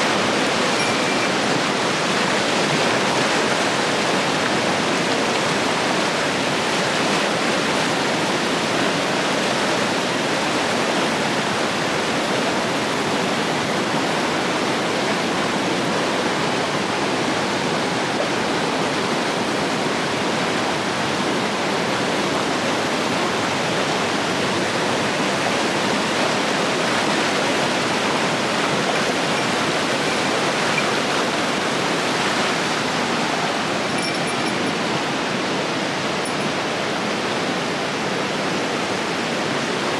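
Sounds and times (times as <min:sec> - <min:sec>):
river rushing over rocks: 0:00.0 - 0:15.7, 0:19.2 - 0:39.9.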